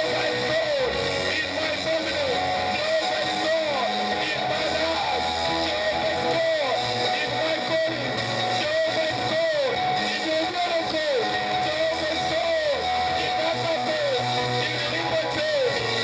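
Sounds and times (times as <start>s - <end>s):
steady bass notes: 0.0s - 16.0s.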